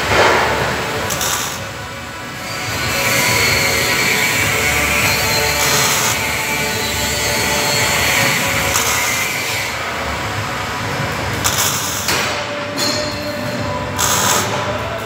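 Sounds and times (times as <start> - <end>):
electric hand tool on steel: 0.0 - 12.2, 13.9 - 14.6.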